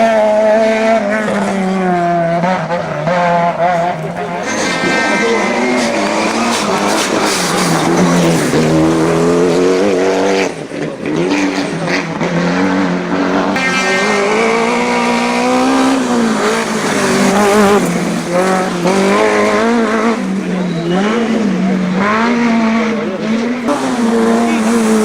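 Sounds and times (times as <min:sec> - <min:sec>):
rally car engines revving high: 0:00.0 - 0:25.0.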